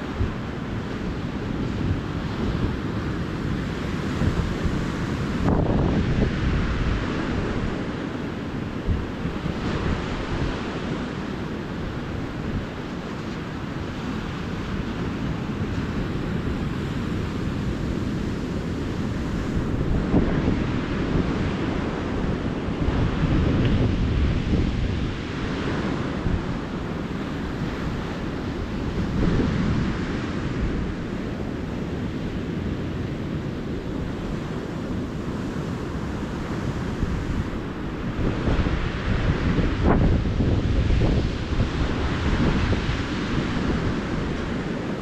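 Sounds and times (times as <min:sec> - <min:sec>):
ocean surf breaking: 0:00.0 - 0:45.0
wind rumbling on microphone: 0:00.0 - 0:45.0.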